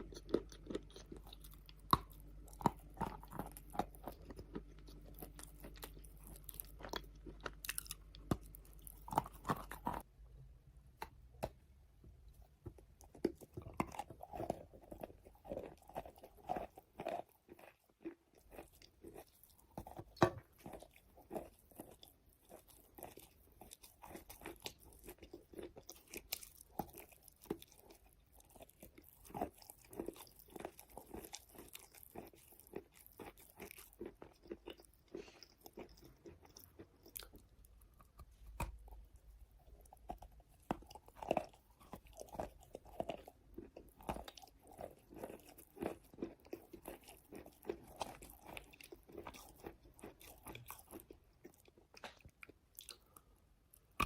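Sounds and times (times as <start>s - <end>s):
chewing crunchy chalk: 0.0s - 10.1s, 13.0s - 53.2s.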